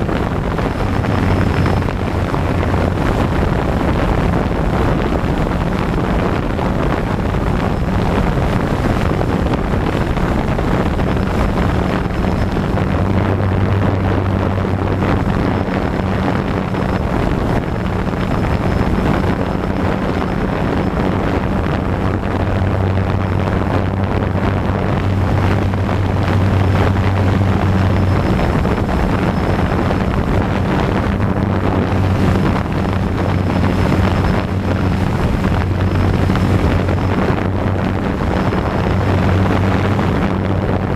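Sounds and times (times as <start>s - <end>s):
drone propellers humming: 0.0s - 40.9s
wind noise on microphone: 0.0s - 40.9s.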